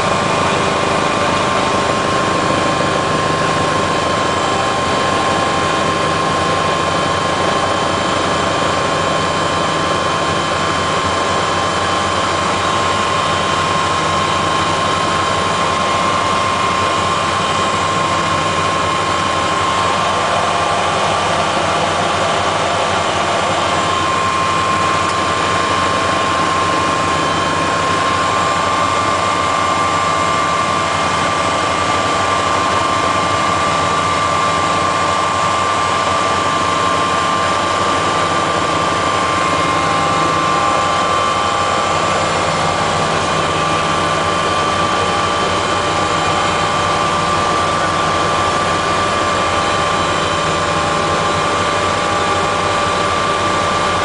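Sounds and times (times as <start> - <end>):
helicopter engines and rotors: 0.0 - 54.0.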